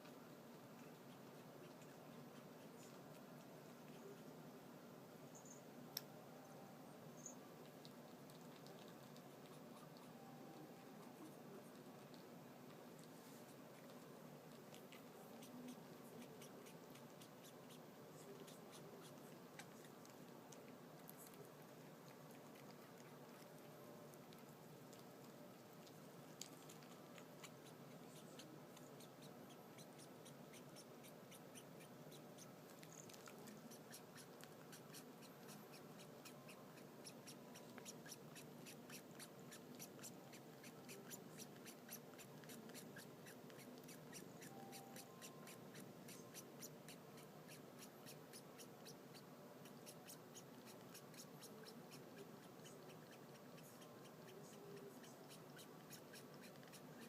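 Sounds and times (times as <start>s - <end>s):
cat licking fur: 0.0s - 4.4s, 7.6s - 57.0s.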